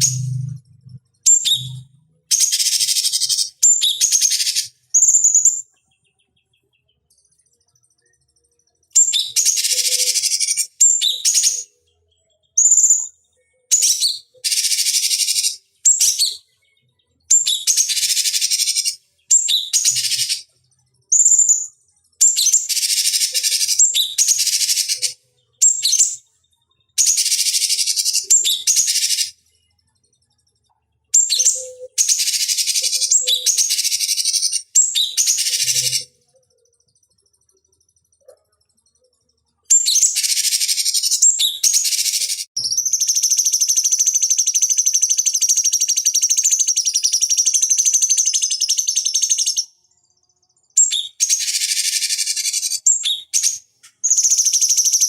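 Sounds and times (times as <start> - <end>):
bird singing harsh buzzy phrases: 0.0 - 55.0.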